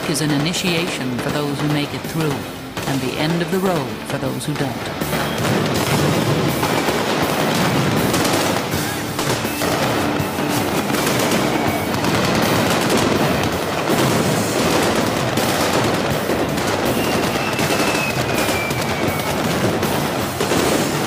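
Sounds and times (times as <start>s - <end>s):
background music: 0.0s - 21.0s
machine-gun fire: 0.0s - 21.0s.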